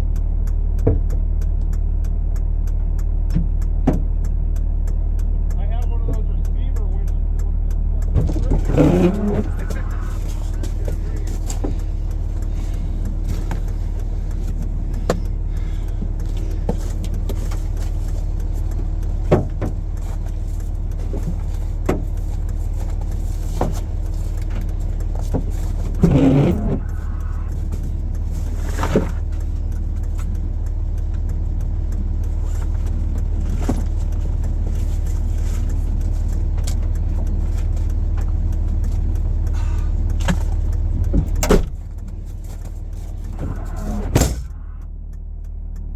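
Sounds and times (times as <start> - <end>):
vehicle engine humming: 0.0 - 45.9
light clicks and knocks: 0.2 - 45.9.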